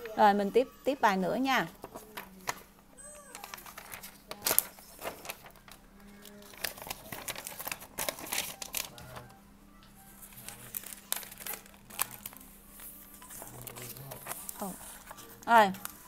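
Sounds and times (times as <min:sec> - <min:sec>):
paper pages rustling: 0:01.7 - 0:09.4, 0:10.1 - 0:16.0.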